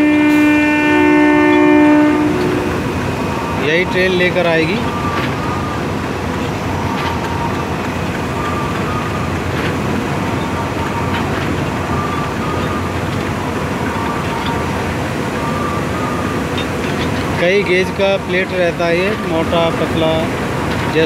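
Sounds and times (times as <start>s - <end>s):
freight wagons rumbling on rails: 0.0s - 21.0s.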